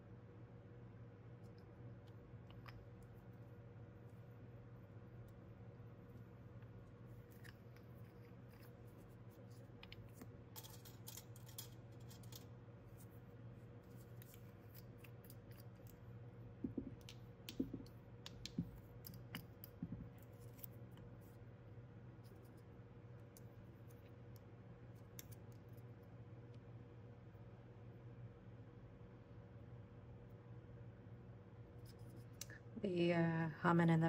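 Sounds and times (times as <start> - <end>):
air purifier humming: 0.0 - 34.0.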